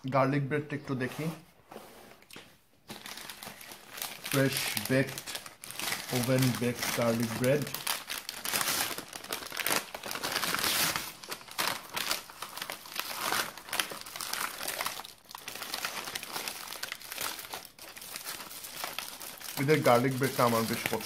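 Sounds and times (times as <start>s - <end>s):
foil crinkling: 2.9s - 21.0s
paper bag rustling: 2.9s - 21.0s.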